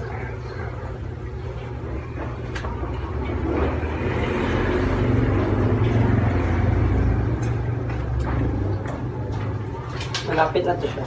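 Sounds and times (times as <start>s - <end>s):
low engine drone: 0.0s - 9.9s.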